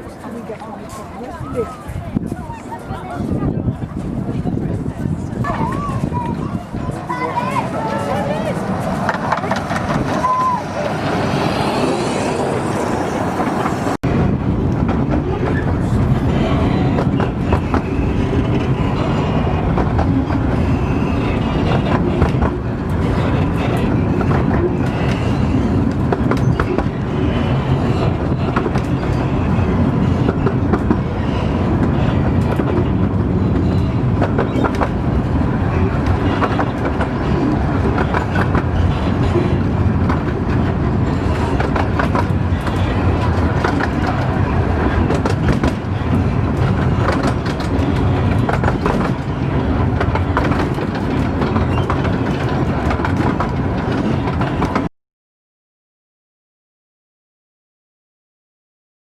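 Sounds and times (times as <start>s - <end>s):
miniature train rumbling: 0.0s - 54.9s
wheels clicking over rail joints: 5.1s - 14.0s, 14.7s - 54.9s.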